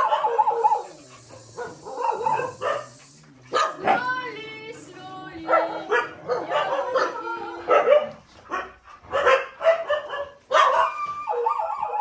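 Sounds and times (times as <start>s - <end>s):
dog barking: 0.0s - 4.2s, 5.5s - 12.0s.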